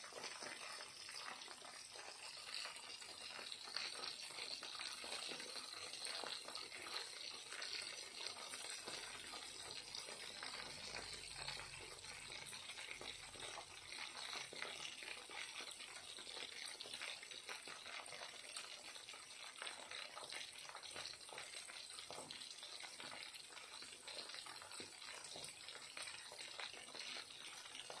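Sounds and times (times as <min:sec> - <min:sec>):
chicken frying in hot oil: 0:00.0 - 0:28.0.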